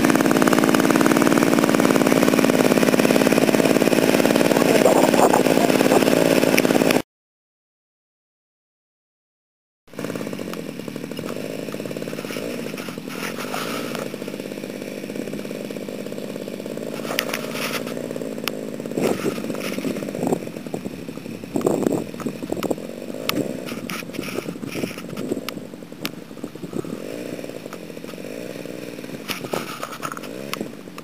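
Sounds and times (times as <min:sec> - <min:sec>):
model airplane engine buzzing: 0:00.0 - 0:07.0, 0:09.9 - 0:31.0.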